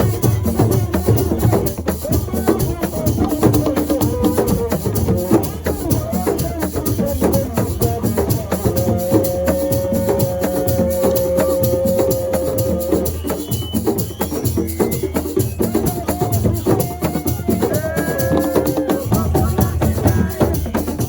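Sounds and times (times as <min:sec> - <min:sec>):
fast hand percussion: 0:00.0 - 0:21.0.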